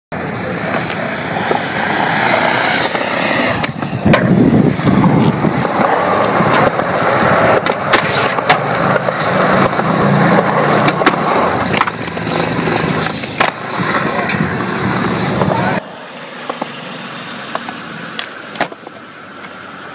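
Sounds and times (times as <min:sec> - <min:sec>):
skateboard wheels rolling on concrete: 0:00.1 - 0:19.9
skateboard clacking on ground: 0:00.6 - 0:16.8, 0:17.5 - 0:19.6.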